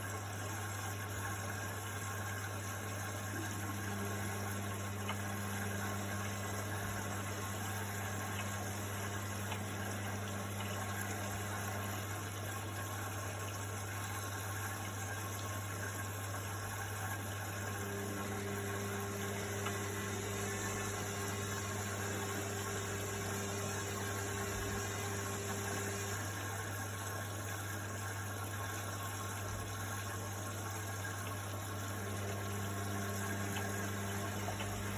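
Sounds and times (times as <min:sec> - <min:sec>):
water hissing into washing machine: 0:00.0 - 0:34.9.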